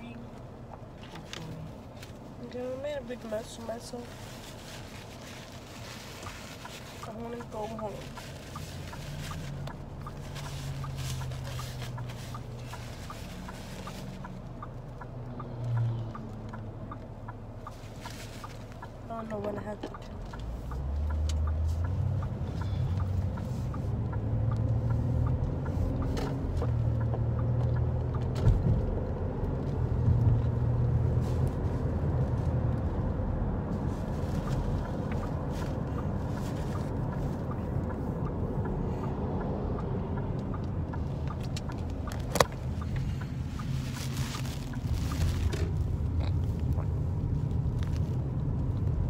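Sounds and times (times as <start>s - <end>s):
car engine and road rumble: 0.0s - 49.0s.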